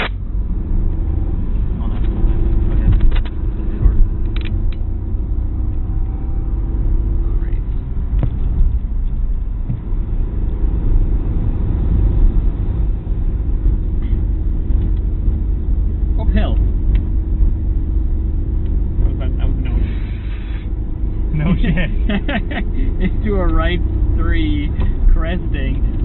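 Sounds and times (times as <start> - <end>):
car engine and road drone: 0.0 - 26.0.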